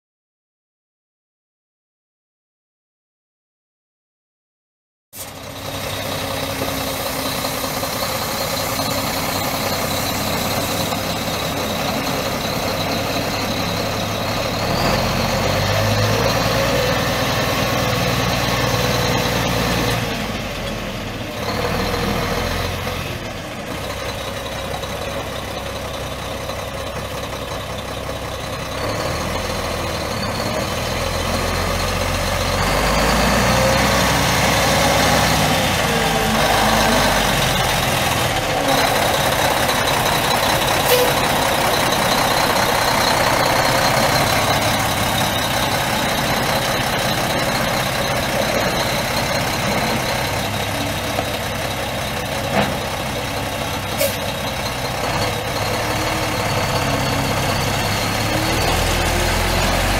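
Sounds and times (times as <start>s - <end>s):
diesel engine idling: 5.2s - 59.9s.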